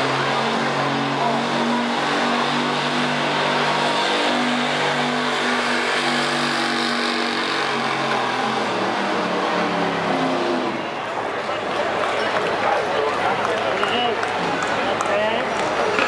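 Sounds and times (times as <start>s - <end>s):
truck engine at high revs: 0.0s - 16.0s.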